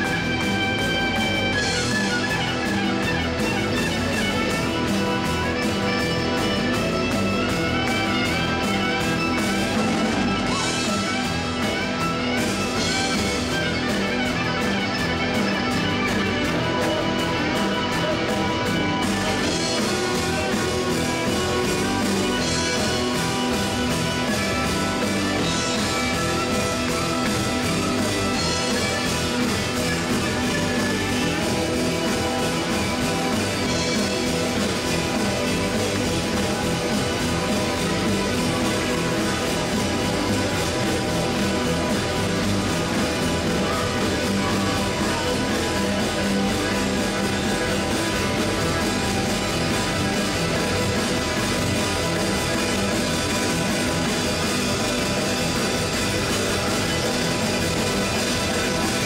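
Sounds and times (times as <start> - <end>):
bass: 0.0 - 59.0
drum kit beat: 0.0 - 59.0
electric guitars: 0.0 - 59.0
fiddle: 0.0 - 59.0.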